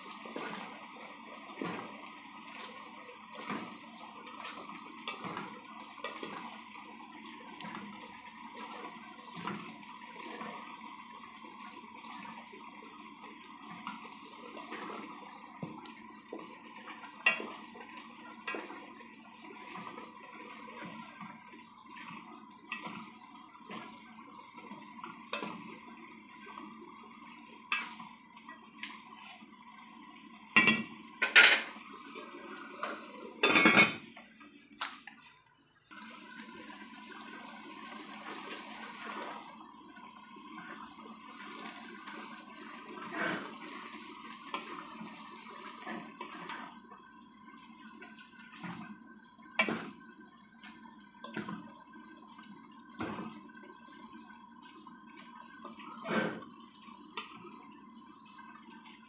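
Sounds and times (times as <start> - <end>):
food frying hiss: 0.0 - 59.0.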